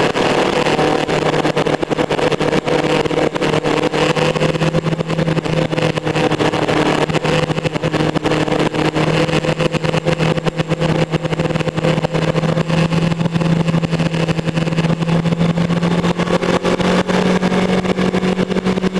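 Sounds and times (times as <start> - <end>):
motorcycle engine running: 0.0 - 18.9
wind buffeting microphone: 0.0 - 18.9.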